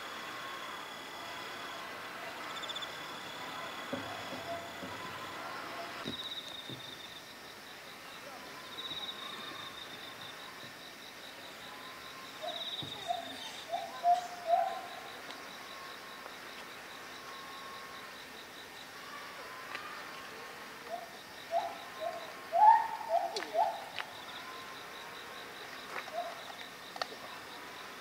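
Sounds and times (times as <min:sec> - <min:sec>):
insect trilling: 0:00.0 - 0:28.0.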